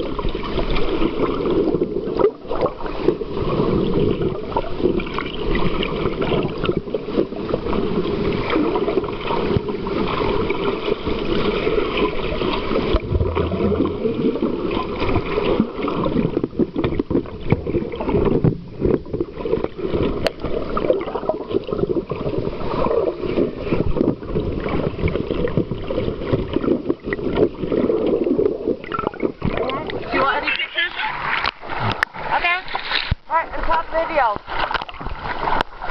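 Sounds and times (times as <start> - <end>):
muffled underwater ocean churning: 0.0 - 35.9.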